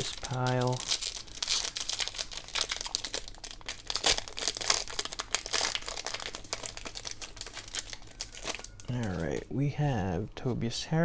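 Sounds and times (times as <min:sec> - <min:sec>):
plastic wrapper crinkling: 0:00.0 - 0:09.5.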